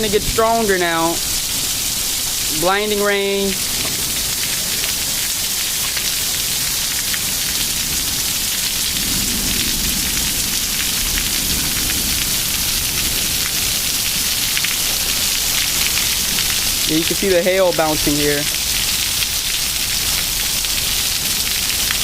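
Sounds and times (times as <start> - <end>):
gusting wind rumble: 0.0 - 21.6
hail ticking: 0.0 - 22.0
torrential rain: 0.0 - 22.0.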